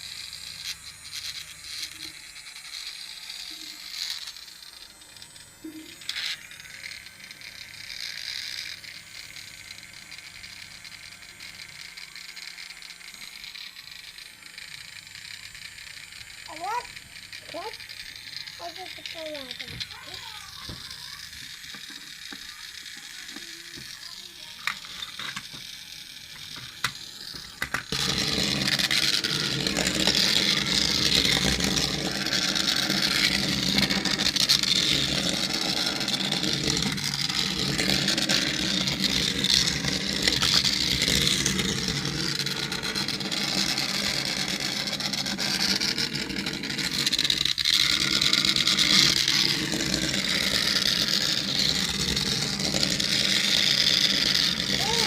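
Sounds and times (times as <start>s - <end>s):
toy car engine running: 0.0s - 55.0s.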